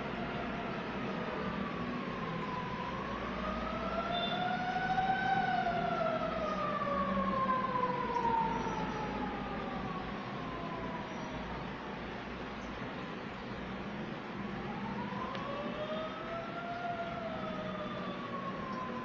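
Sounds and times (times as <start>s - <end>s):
siren wailing: 0.0s - 12.2s, 14.6s - 19.0s.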